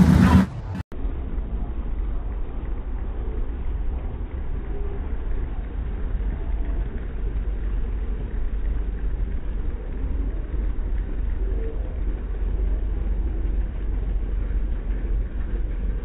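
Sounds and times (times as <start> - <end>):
car engine deep rumble: 0.0 - 16.0.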